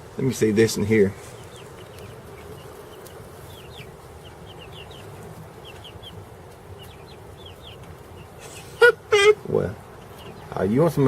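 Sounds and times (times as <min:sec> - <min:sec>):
chicks peeping: 0:00.0 - 0:11.0
steady background hum: 0:00.0 - 0:11.0.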